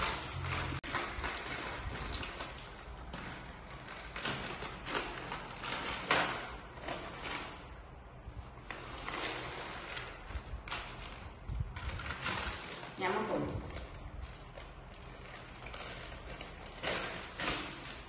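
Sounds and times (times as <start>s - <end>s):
plastic packet crinkling: 0.0s - 7.7s, 10.1s - 18.0s.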